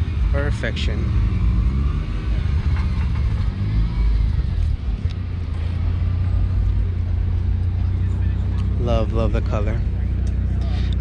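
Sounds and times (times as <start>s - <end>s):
rotary engine rumble: 0.0s - 11.0s.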